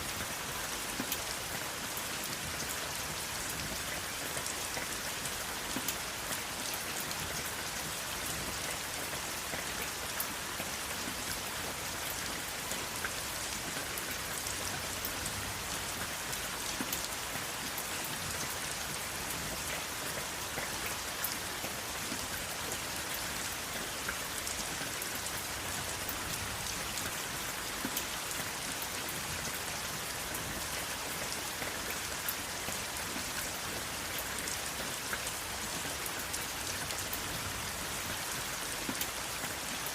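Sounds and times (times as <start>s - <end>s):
rain falling: 0.0s - 39.9s
raindrops pattering on surface: 0.1s - 39.9s.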